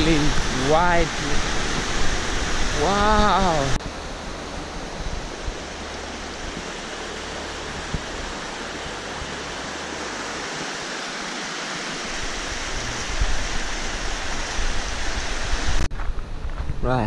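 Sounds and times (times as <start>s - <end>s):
river rushing over rapids: 0.0s - 15.9s.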